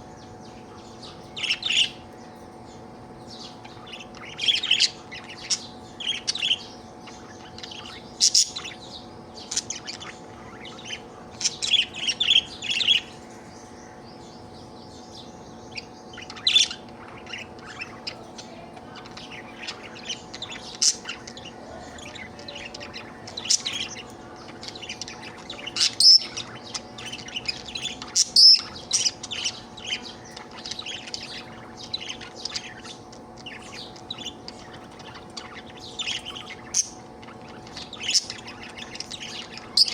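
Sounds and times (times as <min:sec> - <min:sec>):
faint steady hum: 0:00.0 - 0:39.9
budgerigar chirping and chattering: 0:03.4 - 0:13.2, 0:14.9 - 0:39.9.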